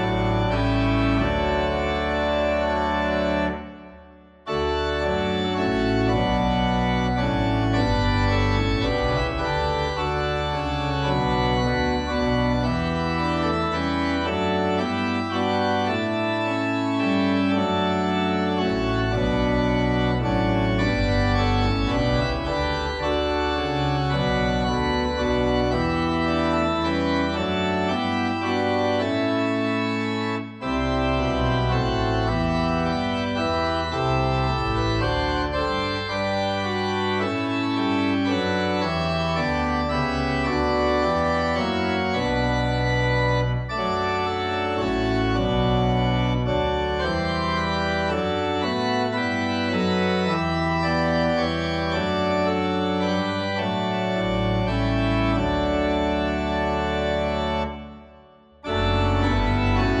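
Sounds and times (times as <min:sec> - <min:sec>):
organ playing a hymn: 0:00.0 - 1:00.0.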